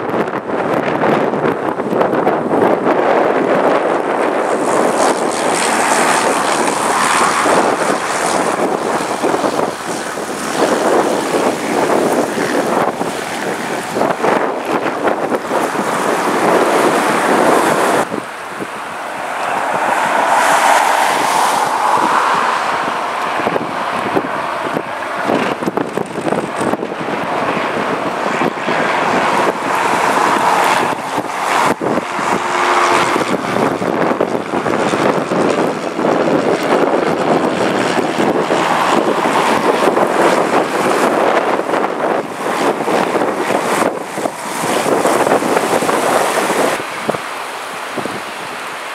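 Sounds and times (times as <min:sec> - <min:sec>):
propeller plane droning overhead: 0:00.0 - 0:48.9
wind buffeting microphone: 0:00.0 - 0:48.9.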